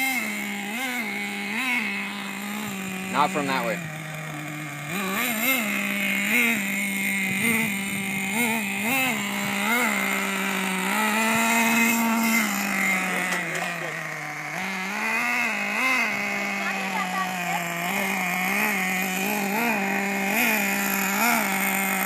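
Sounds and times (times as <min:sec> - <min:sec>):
small nitro engine buzzing: 0:00.0 - 0:22.0.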